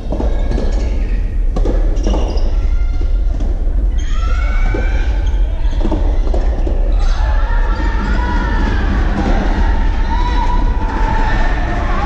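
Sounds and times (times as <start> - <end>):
low rumble of hall: 0.0 - 12.0.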